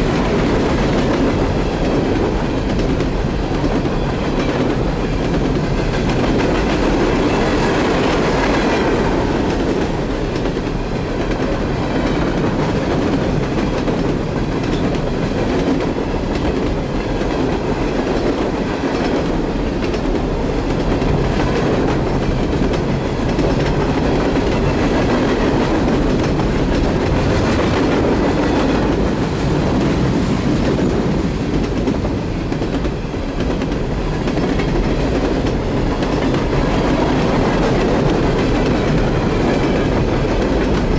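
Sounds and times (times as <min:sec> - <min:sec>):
freight train wheels on rails: 0:00.0 - 0:40.9.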